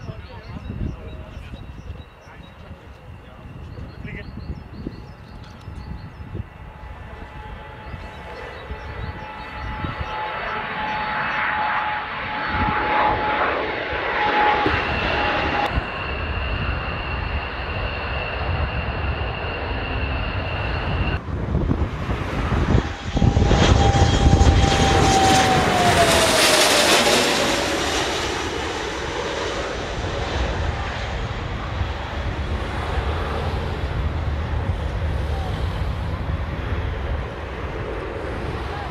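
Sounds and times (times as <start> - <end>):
jet engine whistling whine: 0.0 - 38.9
jet engines rushing rumble: 0.0 - 38.9.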